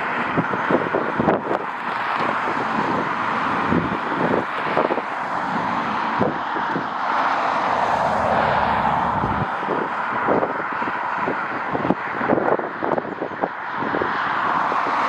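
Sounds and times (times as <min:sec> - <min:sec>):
jet airliner engines rushing: 0:00.0 - 0:15.0
wind buffeting microphone: 0:00.0 - 0:15.0.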